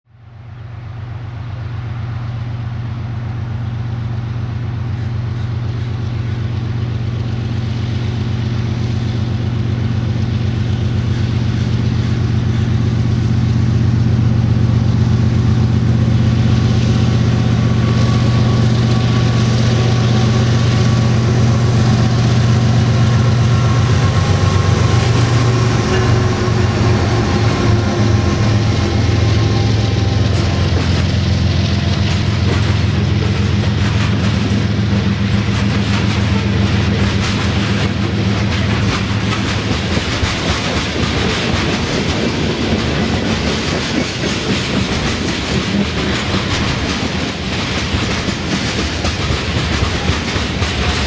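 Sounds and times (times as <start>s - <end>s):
diesel locomotive engines droning: 0.1s - 51.0s.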